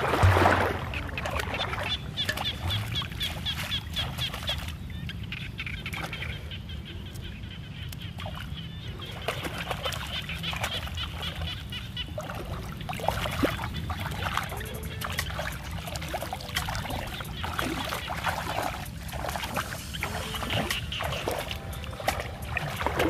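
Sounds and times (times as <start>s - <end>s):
shallow water splashing: 0.0s - 23.0s.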